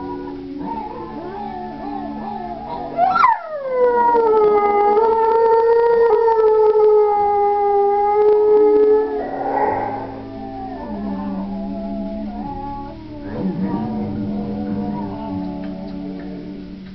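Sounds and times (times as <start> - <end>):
dog howling: 0.0 - 16.8.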